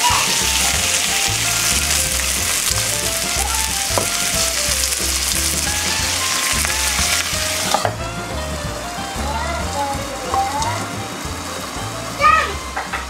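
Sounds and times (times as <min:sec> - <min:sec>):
light background music: 0:00.0 - 0:13.0
meat sizzling in a frying pan: 0:00.0 - 0:13.0.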